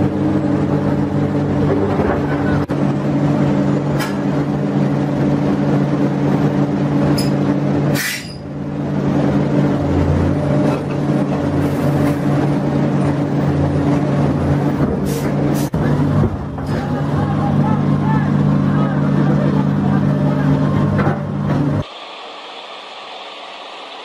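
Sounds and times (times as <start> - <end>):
heavy diesel engines running: 0.0 - 24.0.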